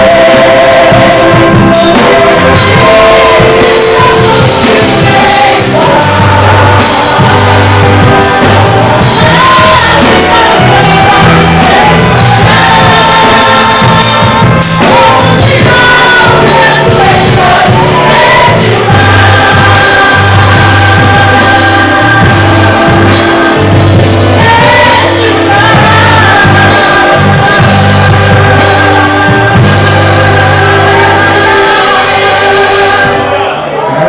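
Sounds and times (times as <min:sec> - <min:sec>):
orchestra playing held chords: 0:00.0 - 0:34.0
voices singing: 0:00.0 - 0:34.0.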